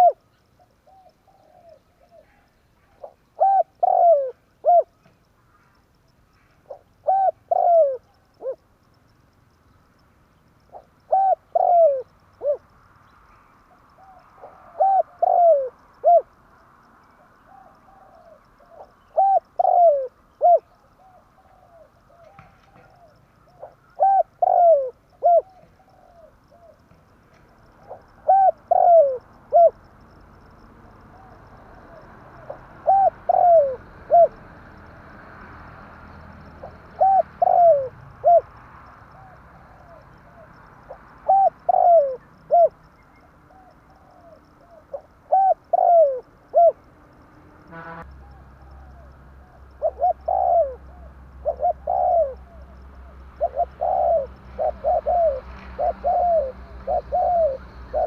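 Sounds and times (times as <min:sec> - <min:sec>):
dove cooing: 0:00.0 - 0:05.2, 0:06.3 - 0:08.6, 0:10.7 - 0:12.7, 0:13.7 - 0:16.4, 0:17.1 - 0:27.0, 0:27.6 - 0:29.9, 0:30.8 - 0:34.6, 0:36.1 - 0:46.9, 0:48.2 - 0:58.0.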